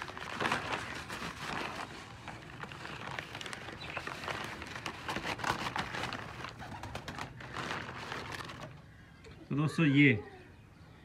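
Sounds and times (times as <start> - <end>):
paper bag crinkling: 0.0 - 8.8.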